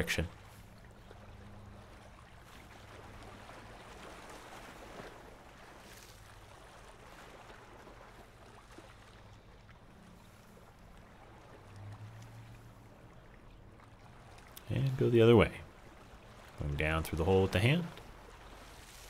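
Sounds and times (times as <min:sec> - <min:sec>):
small waves lapping on rocks: 0:00.2 - 0:15.0, 0:15.6 - 0:19.0.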